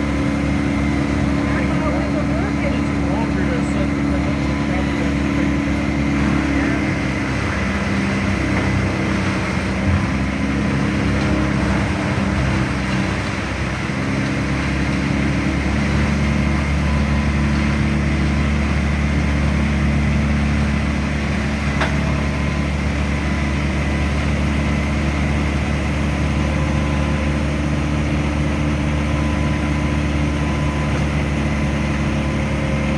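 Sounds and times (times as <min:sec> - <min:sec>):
motor running steadily: 0:00.0 - 0:32.9.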